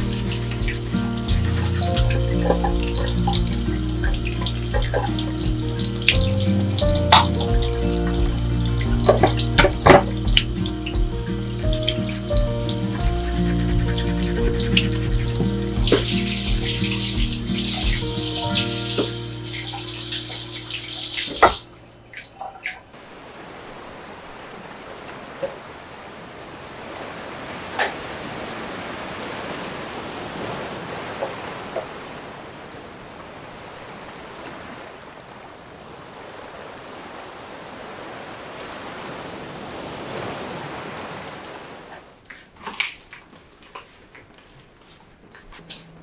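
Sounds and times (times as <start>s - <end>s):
sea surf washing: 0.0s - 44.1s.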